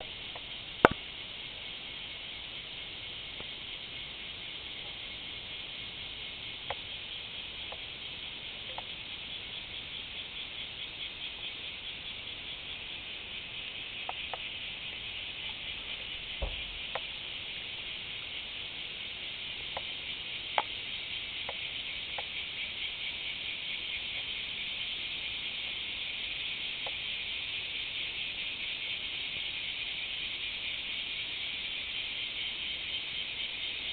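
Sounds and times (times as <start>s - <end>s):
cicadas buzzing: 0.0s - 33.9s
faint ticks: 0.0s - 33.9s.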